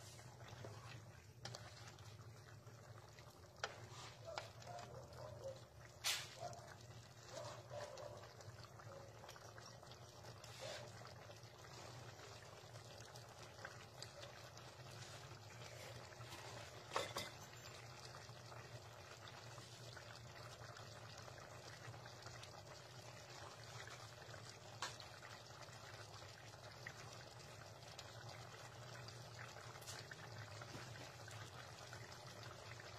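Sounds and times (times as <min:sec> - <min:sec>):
food bubbling in a pan: 0:00.0 - 0:32.9.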